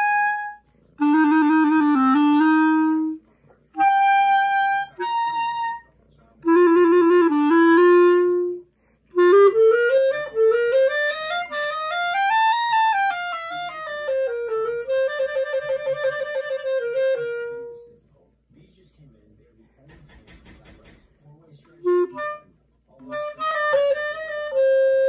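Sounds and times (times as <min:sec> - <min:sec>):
solo clarinet melody: 0:00.0 - 0:18.0, 0:21.8 - 0:25.0.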